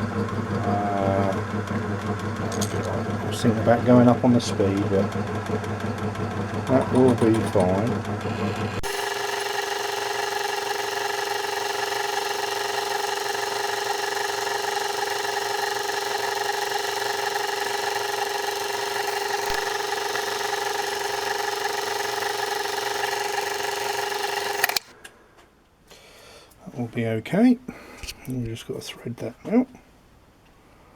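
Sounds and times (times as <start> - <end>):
drilling machine motor whine: 0.0 - 24.9.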